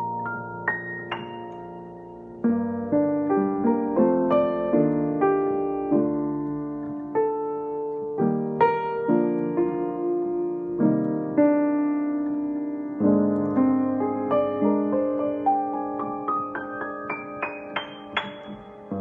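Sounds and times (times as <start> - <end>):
upright piano slow tune: 0.0 - 19.0.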